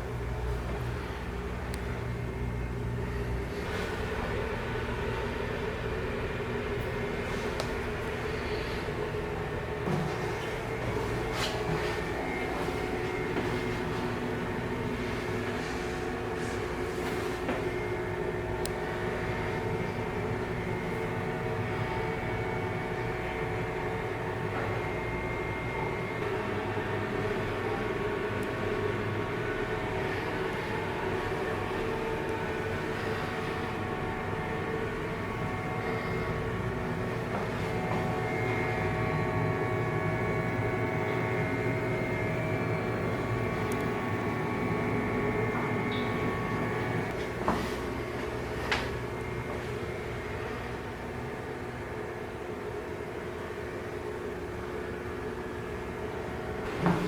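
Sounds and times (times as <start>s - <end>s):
ship diesel machinery droning: 0.0s - 52.0s.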